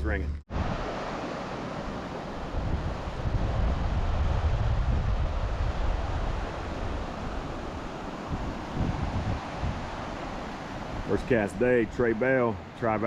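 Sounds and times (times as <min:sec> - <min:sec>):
wind buffeting microphone: 0:00.5 - 0:12.8
flowing water rushing: 0:00.5 - 0:13.0.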